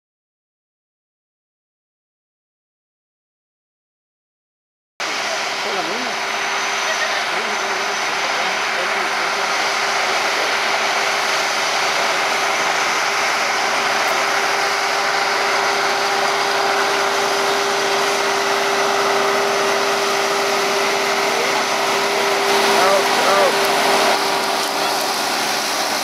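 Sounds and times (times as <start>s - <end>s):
fertilizer spreader rushing: 5.0s - 26.0s
tractor engine humming: 5.0s - 26.0s.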